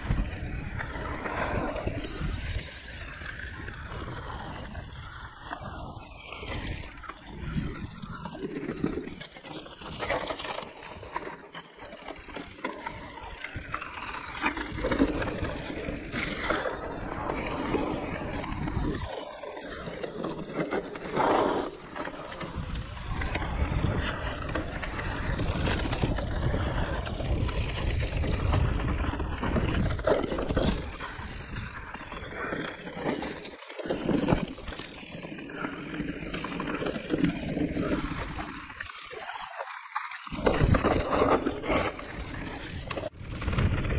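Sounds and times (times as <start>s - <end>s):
bike tyres rolling over ground: 0.0s - 43.9s.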